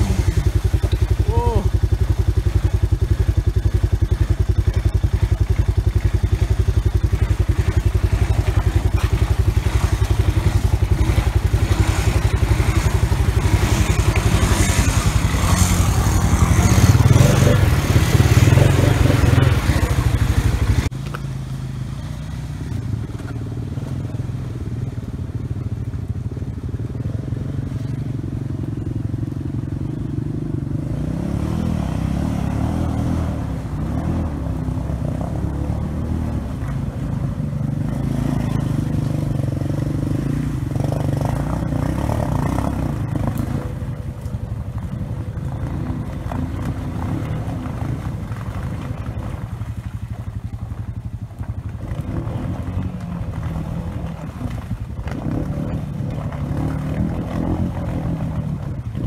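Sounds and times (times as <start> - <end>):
atv engine running: 0.0 - 59.0
distant atv engine revving: 0.0 - 59.0
water churning and splashing: 0.0 - 59.0.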